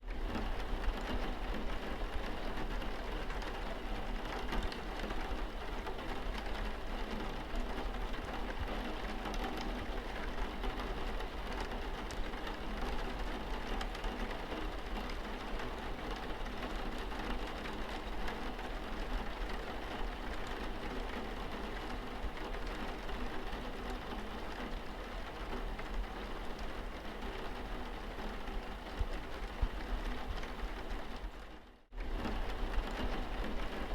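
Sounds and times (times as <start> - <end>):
rain on car windscreen: 0.1 - 33.9.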